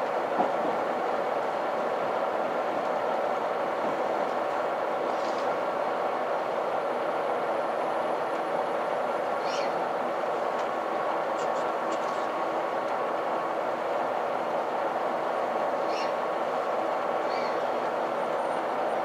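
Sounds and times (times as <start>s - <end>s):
diesel train engine and running gear rumble: 0.0s - 19.0s.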